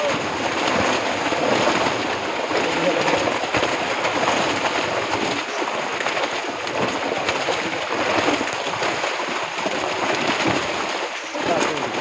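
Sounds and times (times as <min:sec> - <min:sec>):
fish thrashing and splashing: 0:00.0 - 0:12.0.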